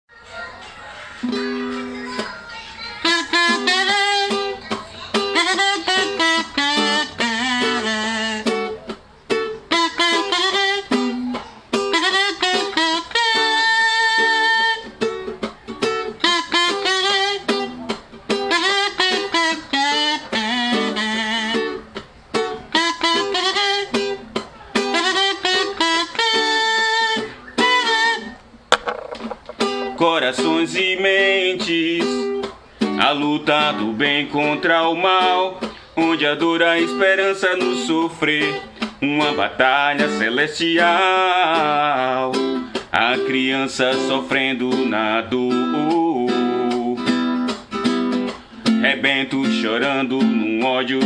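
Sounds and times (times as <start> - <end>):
plucked guitar: 1.0 - 51.0.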